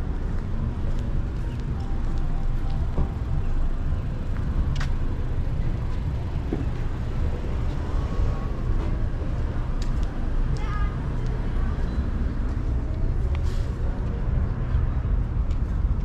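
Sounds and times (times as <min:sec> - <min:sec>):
low rumble of city traffic: 0:00.0 - 0:16.0.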